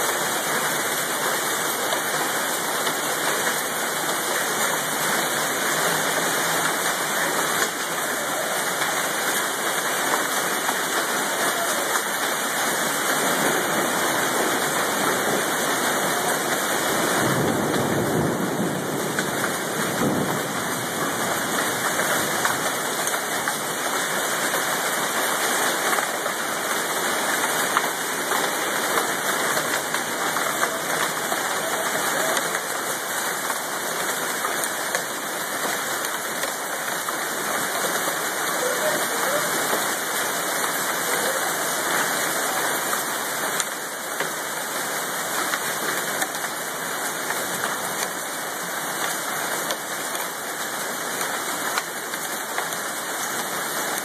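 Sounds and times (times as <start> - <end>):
hail and heavy rain falling: 0.0 - 54.0.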